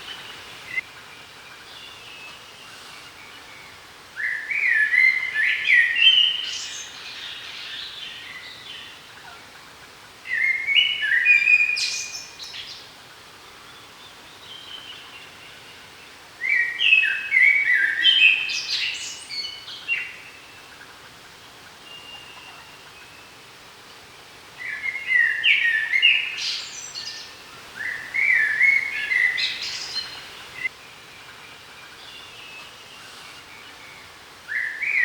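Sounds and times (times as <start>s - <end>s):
faint background hiss: 0.0s - 35.0s
songbird singing: 0.0s - 35.0s.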